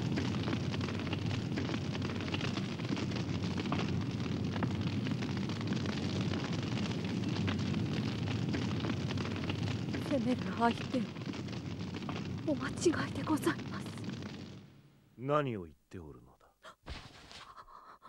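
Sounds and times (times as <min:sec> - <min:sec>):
fire crackling: 0:00.0 - 0:15.3
fire rumbling: 0:00.0 - 0:15.3.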